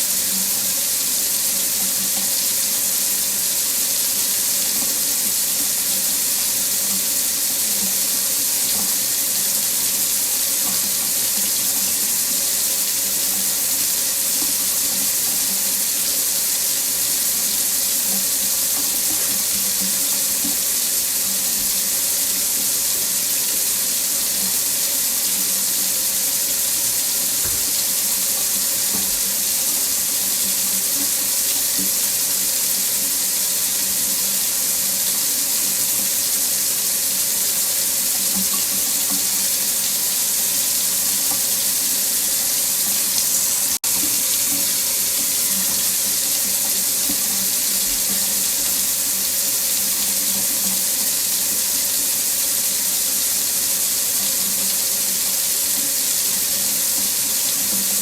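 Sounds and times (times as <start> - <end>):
faucet running into sink: 0.0 - 58.0.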